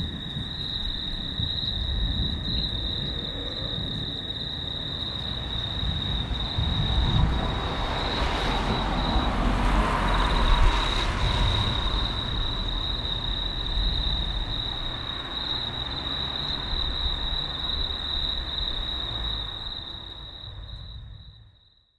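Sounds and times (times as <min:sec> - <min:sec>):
distant thunder rumbling: 0:00.0 - 0:19.7
night insects trilling: 0:00.0 - 0:21.7.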